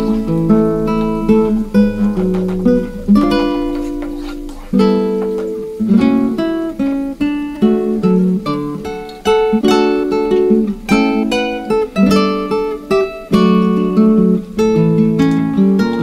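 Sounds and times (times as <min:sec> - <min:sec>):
plucked acoustic guitar melody: 0:00.0 - 0:16.0.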